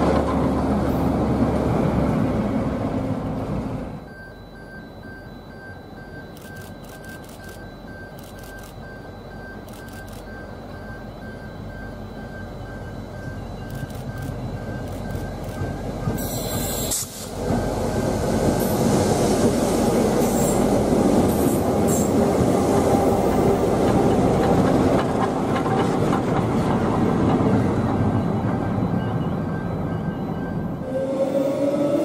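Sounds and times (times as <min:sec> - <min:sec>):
steel wheels on rails: 0:00.0 - 0:04.0, 0:06.0 - 0:32.0
diesel locomotive engines: 0:00.0 - 0:32.0.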